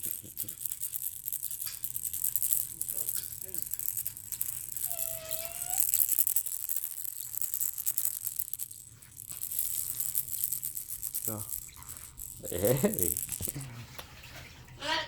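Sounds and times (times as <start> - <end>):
cockatoo cracking food: 0.0 - 13.7.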